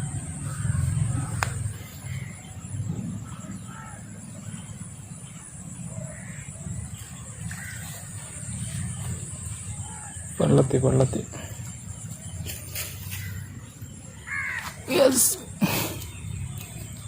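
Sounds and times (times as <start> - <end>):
high-pitched whine: 0.0 - 15.2
birds chirping: 0.0 - 17.0.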